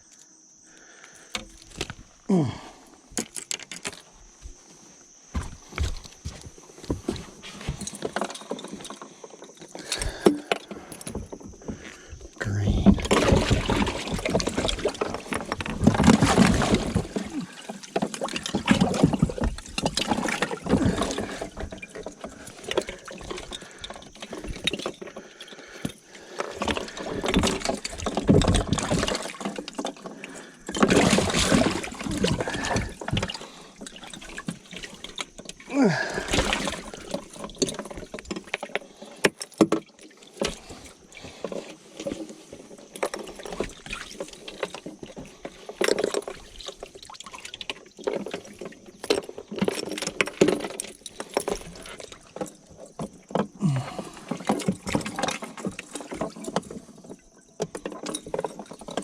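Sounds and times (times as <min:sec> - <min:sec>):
water splashing against boat: 0:05.4 - 0:59.0.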